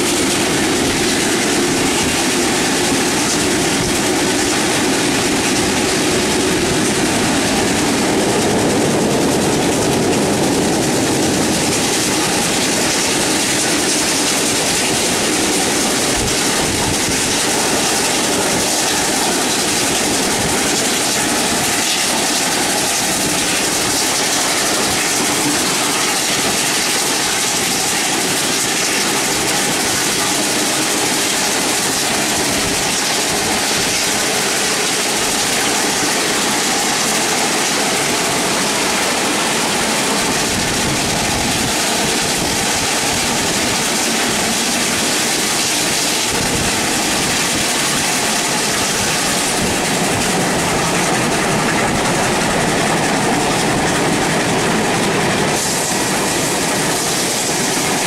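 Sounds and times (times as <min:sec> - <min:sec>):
train rushing along track: 0:00.0 - 0:58.0.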